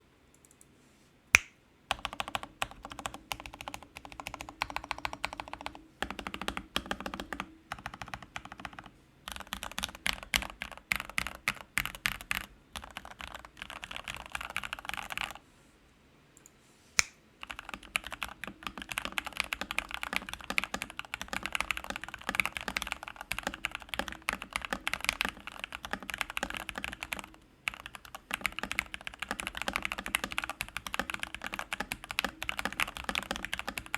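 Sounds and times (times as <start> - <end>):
mechanical keyboard typing: 1.9 - 15.4, 17.4 - 33.9.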